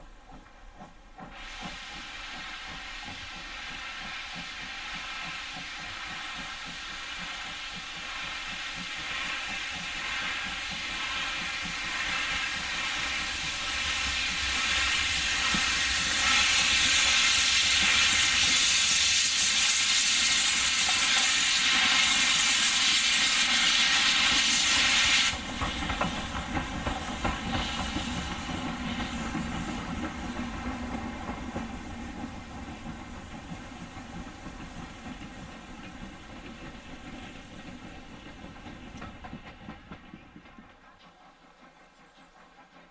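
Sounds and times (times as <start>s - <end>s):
steam locomotive hissing: 0.0s - 42.9s
train rumbling and clattering: 0.0s - 42.9s.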